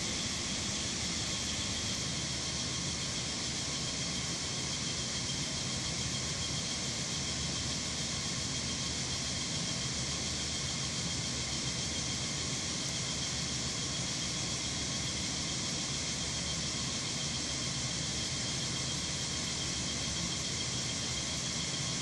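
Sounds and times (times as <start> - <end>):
steady machine hiss: 0.0 - 22.0.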